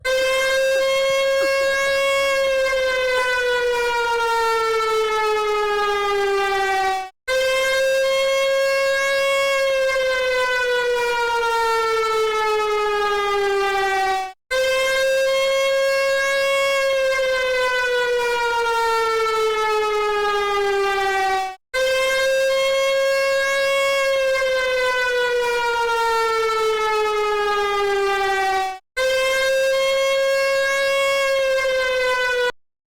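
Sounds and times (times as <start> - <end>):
siren-like alarm tone: 0.0 - 32.6.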